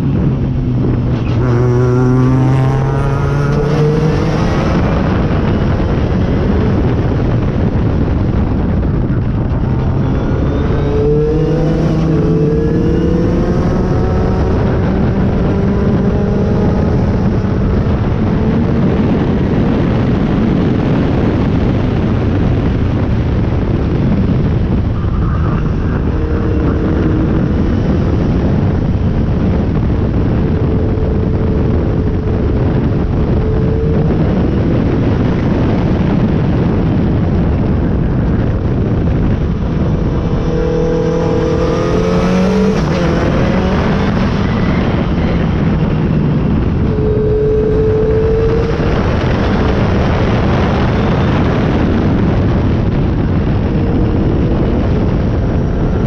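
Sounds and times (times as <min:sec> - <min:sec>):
car engine accelerating: 0:00.0 - 0:56.0
wind and road rush: 0:00.0 - 0:56.0.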